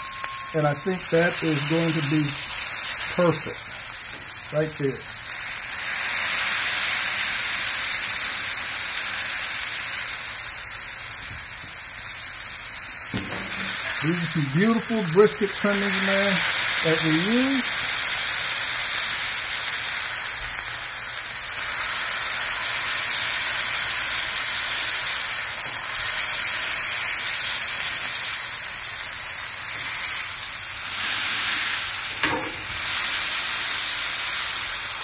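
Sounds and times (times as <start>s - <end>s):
meat sizzling on a griddle: 0.0s - 35.0s.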